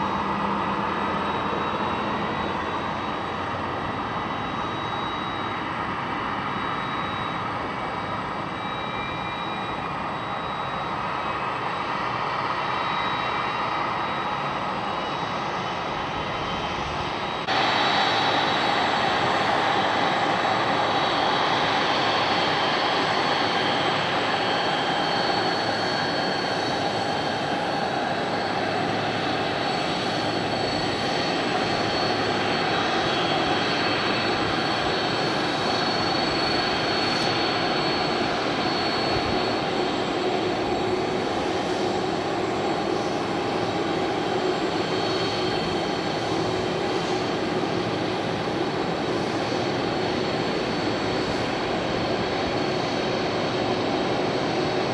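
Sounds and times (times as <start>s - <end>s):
jet engines roaring with whine: 0.0s - 54.9s.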